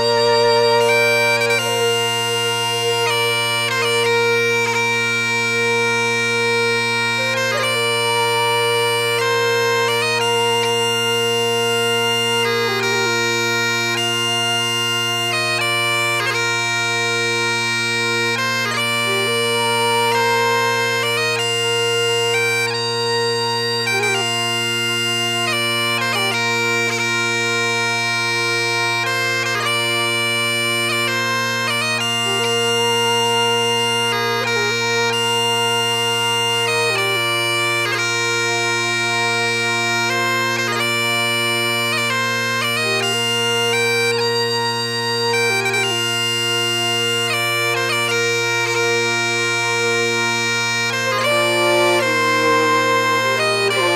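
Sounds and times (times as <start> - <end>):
bagpipes playing: 0.0 - 53.9.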